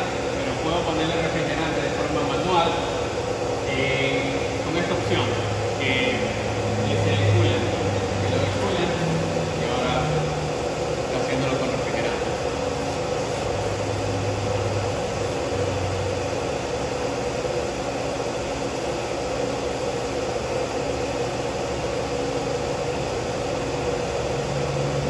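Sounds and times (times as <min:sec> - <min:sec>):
coolant spraying: 0:00.0 - 0:25.0.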